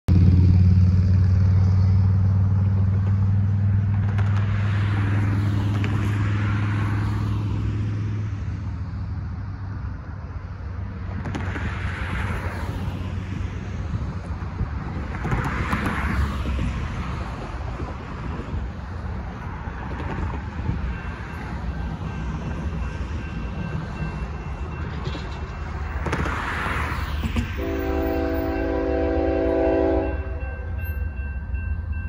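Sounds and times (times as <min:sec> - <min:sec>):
cars passing: 0:00.1 - 0:32.0.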